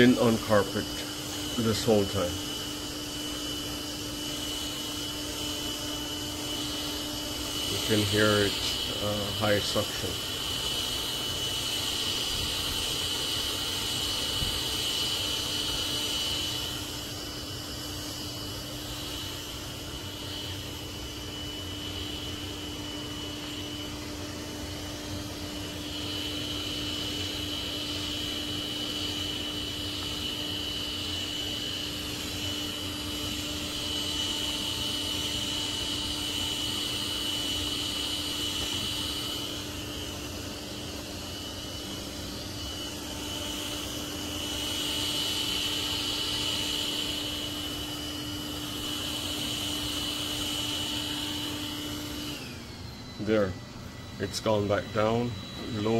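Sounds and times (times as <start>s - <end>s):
robot vacuum fan whine: 0.0s - 55.9s.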